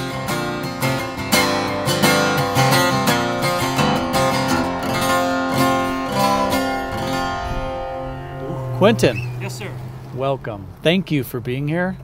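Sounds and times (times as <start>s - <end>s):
acoustic guitar strummed: 0.0s - 10.2s.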